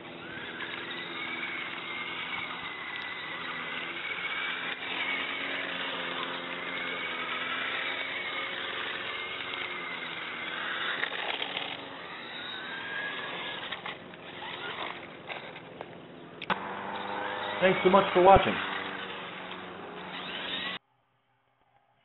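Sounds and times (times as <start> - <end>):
toy car electric motor whining: 0.0 - 20.8.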